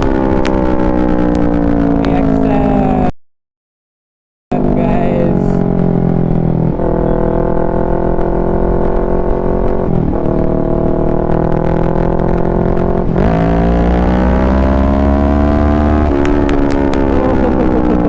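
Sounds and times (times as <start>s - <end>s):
exhaust crackles: 0.0s - 3.1s, 4.5s - 18.0s
motorcycle engine revving: 0.0s - 3.1s, 4.5s - 18.0s.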